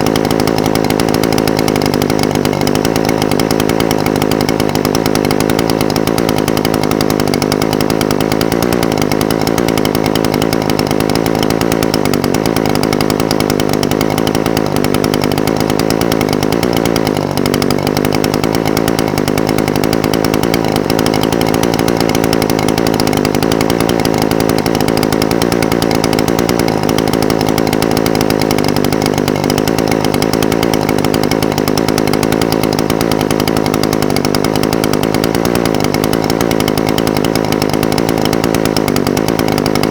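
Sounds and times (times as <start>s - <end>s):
brush cutter engine idling: 0.0s - 39.9s.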